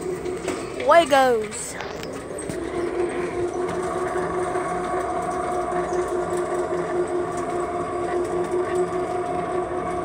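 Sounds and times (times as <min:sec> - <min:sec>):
electric motor whining: 0:01.8 - 0:10.0.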